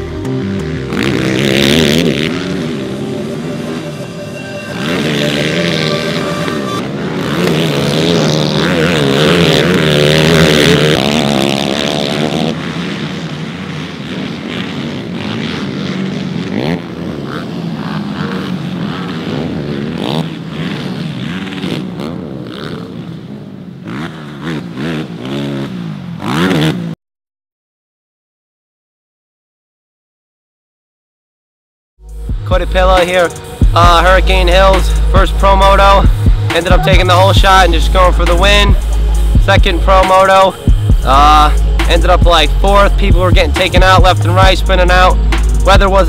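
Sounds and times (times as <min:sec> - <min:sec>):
atv engines revving hard: 0:00.3 - 0:03.0, 0:05.1 - 0:27.0, 0:32.4 - 0:46.0.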